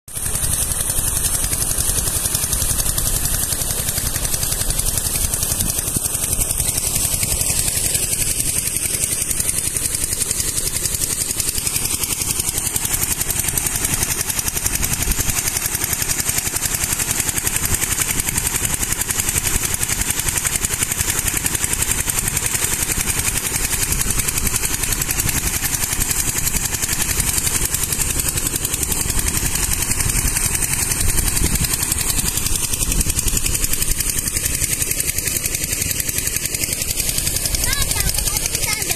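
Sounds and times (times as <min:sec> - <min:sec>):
water gushing and splashing: 0:00.1 - 0:38.7
small engine running: 0:00.1 - 0:38.9.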